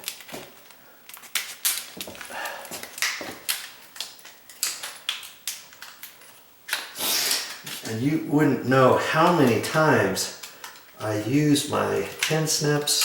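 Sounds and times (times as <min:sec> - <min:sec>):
plastic blister pack crackling: 0:00.0 - 0:13.0.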